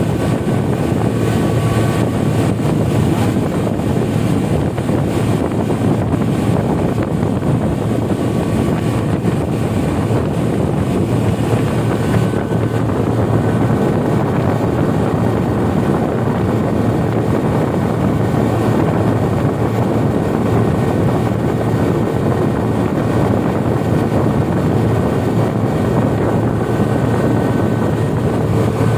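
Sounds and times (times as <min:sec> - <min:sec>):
hull and water noise: 0:00.0 - 0:28.9
outboard engine running: 0:00.0 - 0:28.9
wind buffeting microphone: 0:00.0 - 0:28.9.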